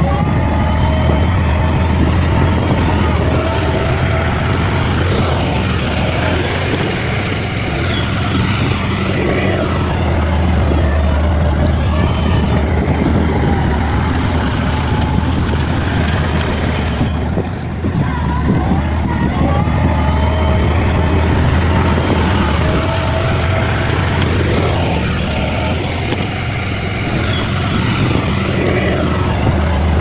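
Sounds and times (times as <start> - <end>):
bulldozer diesel engine droning: 0.0 - 30.0.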